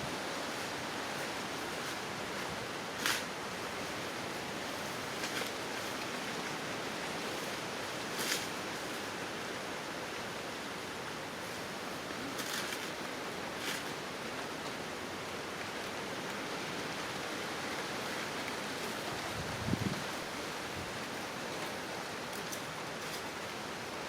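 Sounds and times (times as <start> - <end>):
outdoor hiss: 0.0 - 24.0.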